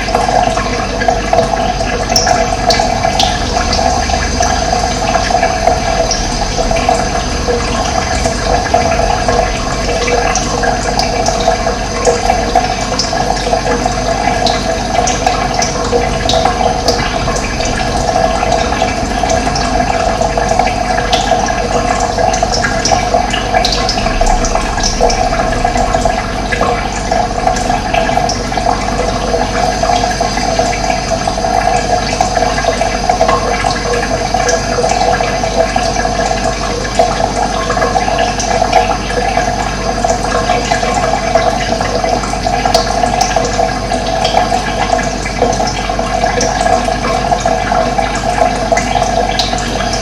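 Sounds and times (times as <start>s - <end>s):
running water rushing: 0.0s - 50.0s.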